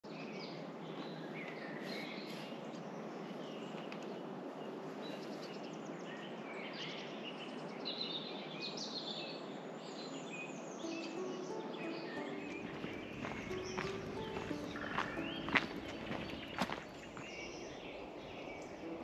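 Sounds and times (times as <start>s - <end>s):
songbirds singing and calling: 0.0s - 19.0s.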